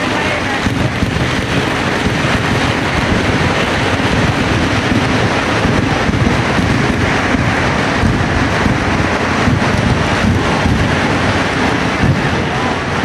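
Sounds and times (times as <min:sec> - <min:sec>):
fireworks barrage: 0:00.0 - 0:13.0.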